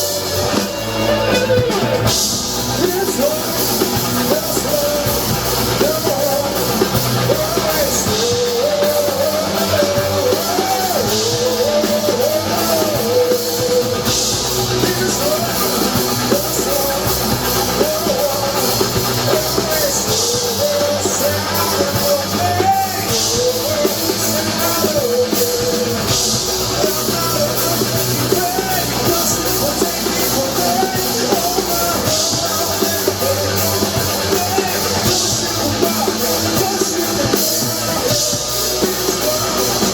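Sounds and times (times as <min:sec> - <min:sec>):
person singing: 0:00.0 - 0:39.9
rock band playing live: 0:00.0 - 0:39.9.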